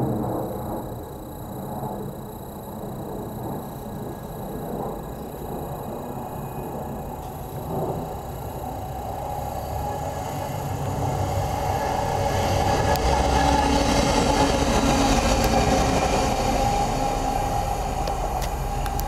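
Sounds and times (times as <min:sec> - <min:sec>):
diesel locomotive passing: 0:00.0 - 0:19.0
train wheel noise: 0:00.0 - 0:19.0.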